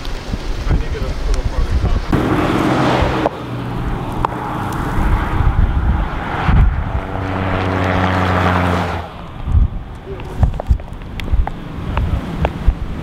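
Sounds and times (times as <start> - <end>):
wind on microphone: 0.0 - 13.0
vehicle engine humming: 2.1 - 13.0.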